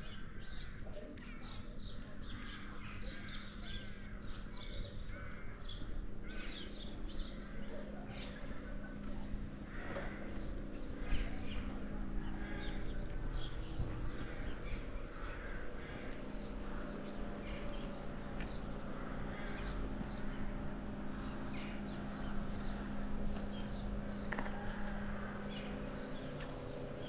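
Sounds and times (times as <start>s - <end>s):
birds chirping: 0.0s - 27.0s
steady low hum: 0.0s - 27.0s.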